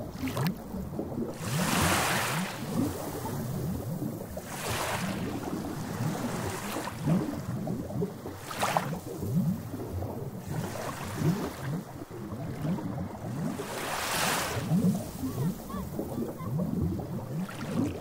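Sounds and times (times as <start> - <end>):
sea waves lapping ashore: 0.0 - 7.6, 8.2 - 18.0.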